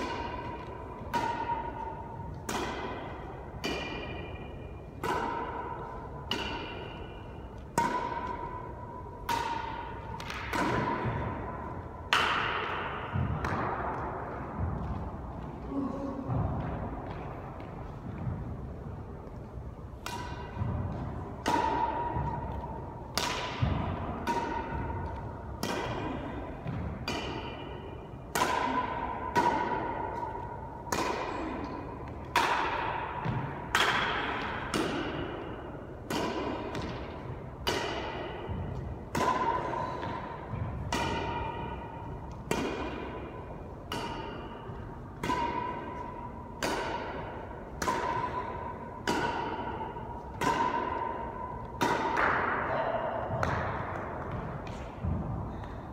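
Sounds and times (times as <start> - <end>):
rackets hitting shuttlecock: 0.0 - 55.9.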